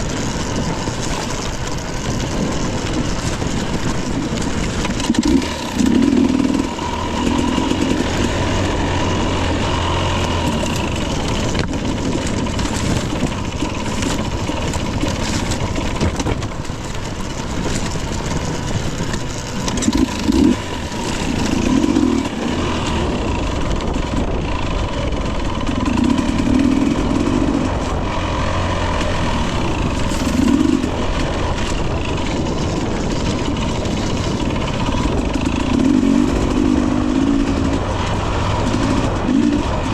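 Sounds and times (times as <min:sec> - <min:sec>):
bike clattering on rough ground: 0:00.0 - 0:39.9
two-stroke motorcycle revving: 0:00.0 - 0:39.9.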